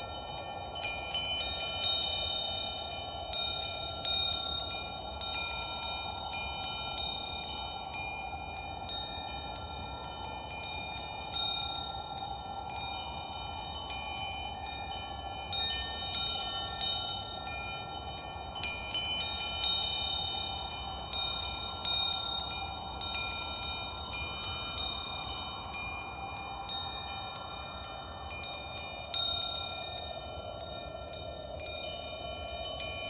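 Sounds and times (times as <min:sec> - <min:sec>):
steady hiss: 0:00.0 - 0:33.0
wind chimes ringing: 0:00.0 - 0:33.0.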